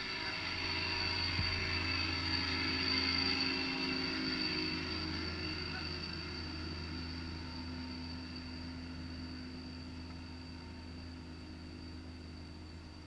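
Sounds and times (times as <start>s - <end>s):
distant engine hum: 0.0s - 13.0s
thin high whine: 0.0s - 13.0s.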